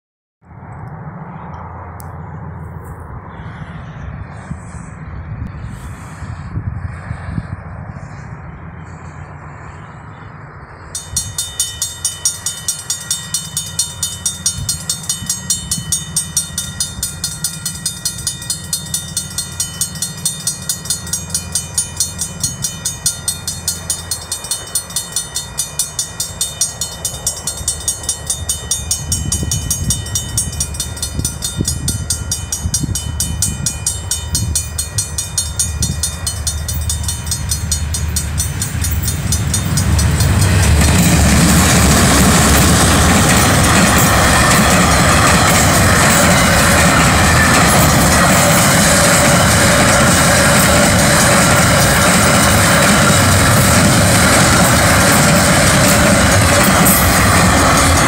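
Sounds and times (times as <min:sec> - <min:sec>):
train rumble and wheel knocks: 0:10.7 - 0:58.0
level crossing warning bell: 0:10.8 - 0:58.0.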